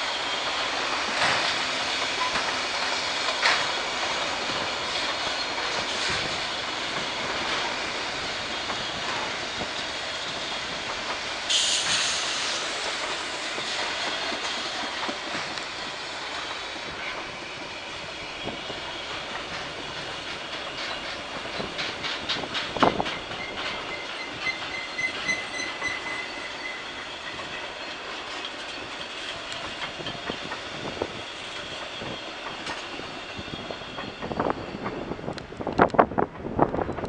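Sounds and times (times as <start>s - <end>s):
high wheel squeal: 0.0s - 22.0s, 22.8s - 35.1s
train wheels rumbling on rail: 0.0s - 37.0s
wheels clicking over rail joints: 0.3s - 12.0s, 18.4s - 37.0s.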